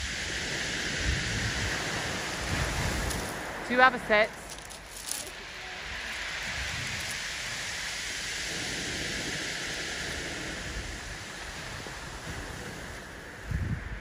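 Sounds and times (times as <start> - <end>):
waves washing over shingle: 0.0 - 14.0.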